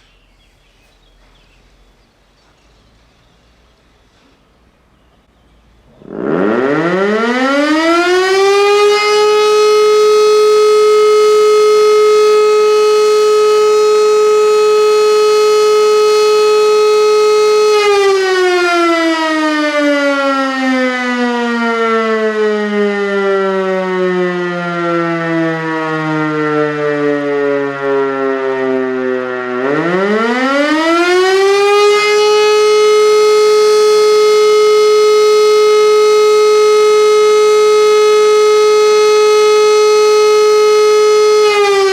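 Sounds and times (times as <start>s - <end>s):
electromechanical siren wailing: 5.9s - 41.9s.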